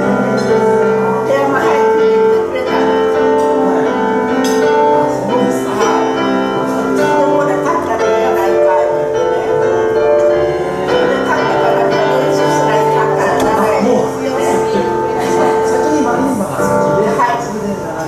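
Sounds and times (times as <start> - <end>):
grand piano chords: 0.0 - 18.0.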